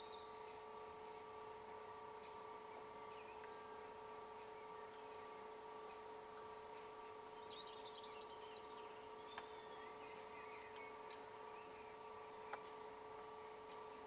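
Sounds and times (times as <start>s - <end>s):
faint birds chirping: 0.0s - 14.0s
steady hum: 0.0s - 14.0s.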